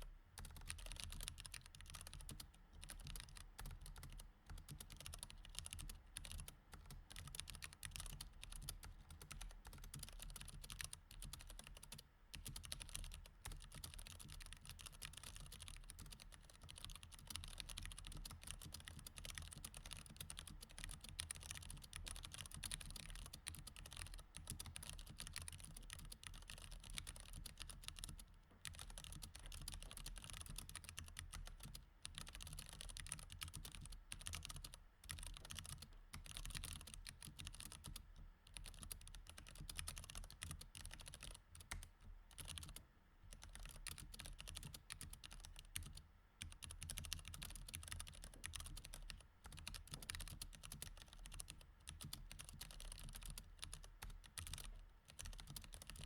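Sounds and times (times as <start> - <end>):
mechanical keyboard typing: 0.4 - 56.0.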